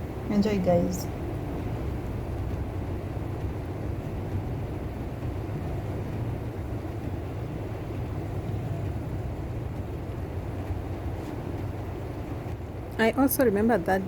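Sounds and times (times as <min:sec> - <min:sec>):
vehicle noise: 0:00.0 - 0:14.0.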